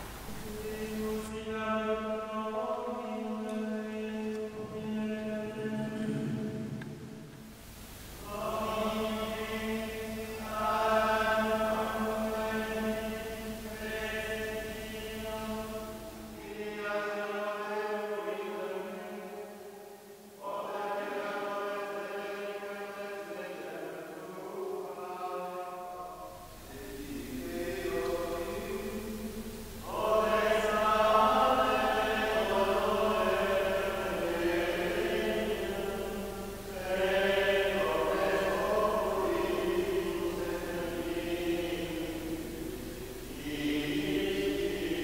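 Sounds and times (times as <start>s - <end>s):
men chanting in unison: 0.0s - 7.3s, 8.2s - 45.0s.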